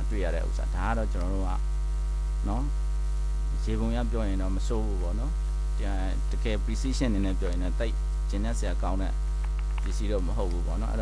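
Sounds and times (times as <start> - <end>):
person speaking: 0.0 - 1.6, 3.5 - 11.0
low electrical mains hum: 0.0 - 11.0.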